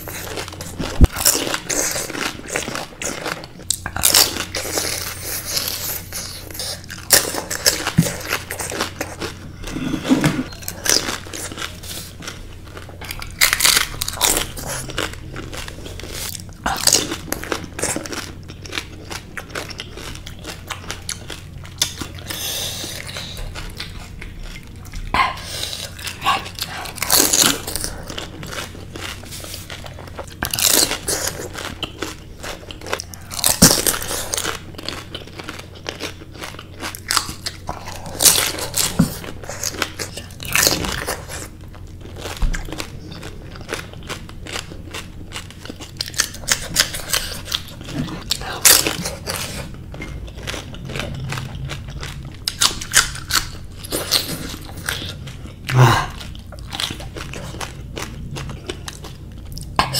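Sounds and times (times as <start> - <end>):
person crunching crisp snacks: 0.0 - 59.9.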